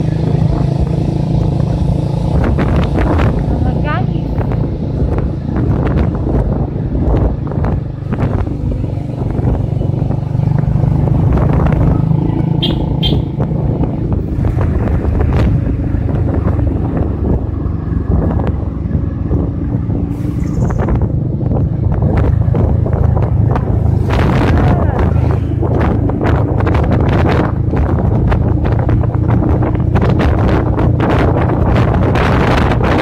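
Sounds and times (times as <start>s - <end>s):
motorcycle engine cruising: 0.0s - 33.0s
wind rushing over microphone: 0.0s - 33.0s.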